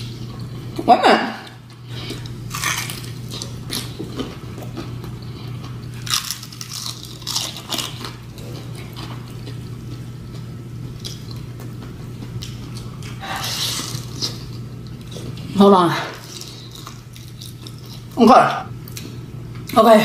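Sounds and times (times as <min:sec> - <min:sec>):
crunchy chewing: 0:00.0 - 0:18.2
steady low hum: 0:00.0 - 0:20.0.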